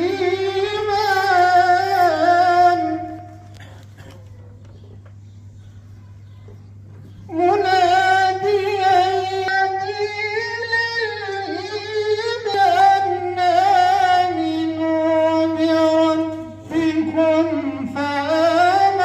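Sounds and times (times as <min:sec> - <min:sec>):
man reciting melodically: 0:00.0 - 0:03.6, 0:06.7 - 0:19.0
steady low hum: 0:00.0 - 0:19.0.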